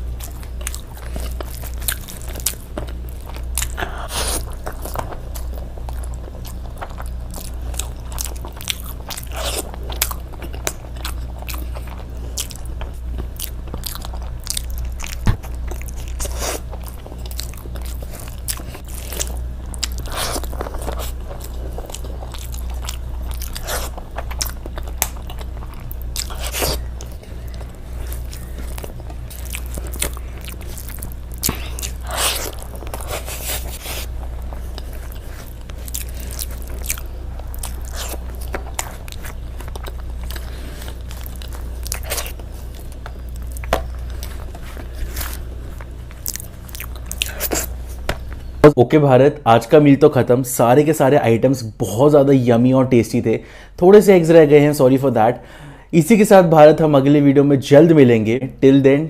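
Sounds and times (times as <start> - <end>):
crunching and wet chewing: 0.0 - 48.5
steady low hum: 0.0 - 59.0.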